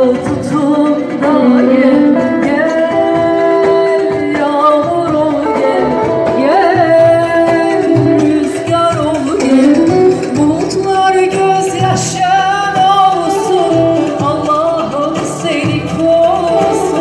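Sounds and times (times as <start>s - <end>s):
electronic keyboard accompaniment: 0.0s - 17.0s
woman singing into a microphone: 0.0s - 17.0s.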